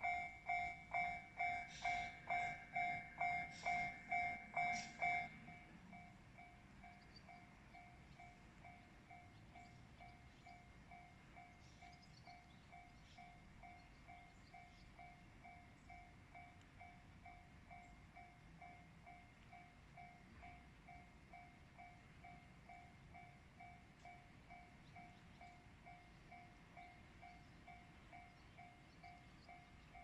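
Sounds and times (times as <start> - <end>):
level-crossing warning bell: 0.0 - 30.0.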